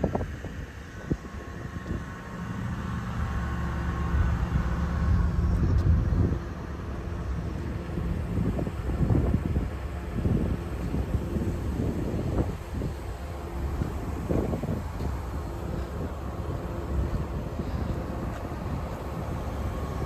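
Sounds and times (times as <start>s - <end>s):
excavator engine running compactor: 0.0s - 20.0s.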